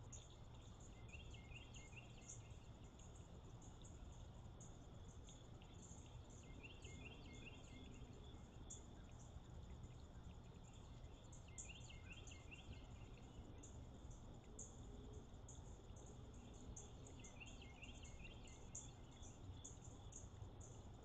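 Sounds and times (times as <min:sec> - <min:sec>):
faint low hum: 0:00.0 - 0:21.0
insects chirping: 0:00.0 - 0:21.0
songbird singing: 0:00.0 - 0:21.0.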